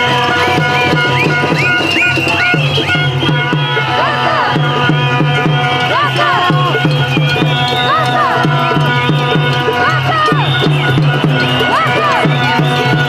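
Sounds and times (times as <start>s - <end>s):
drum beaten in steady rhythm: 0.0s - 13.0s
held steady tones: 0.0s - 13.0s.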